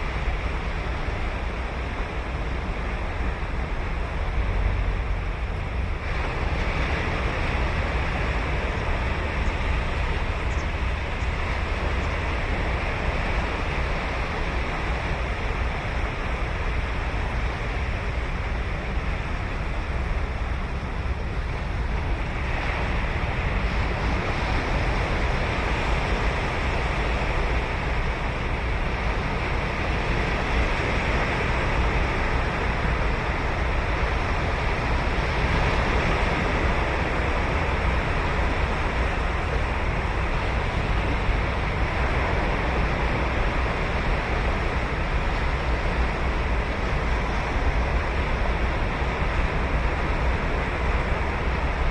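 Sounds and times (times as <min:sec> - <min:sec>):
ocean surf breaking on beach: 0:00.0 - 0:51.9
wind buffeting microphone: 0:00.0 - 0:51.9.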